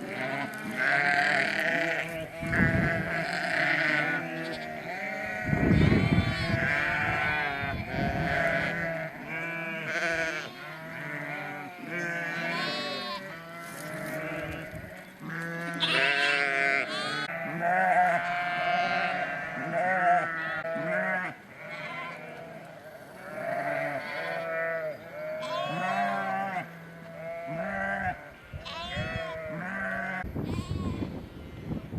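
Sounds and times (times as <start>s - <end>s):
sheep and lambs bleating: 0.0s - 31.5s.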